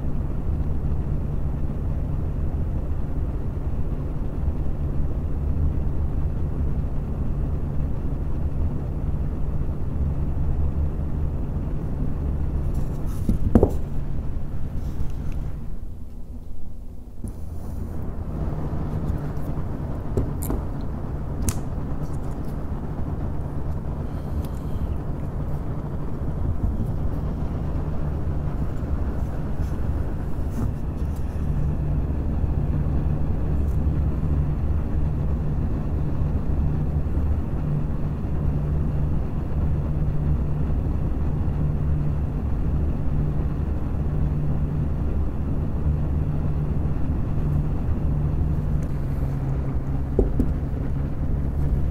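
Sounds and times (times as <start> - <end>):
computer fans humming: 0.0 - 51.9.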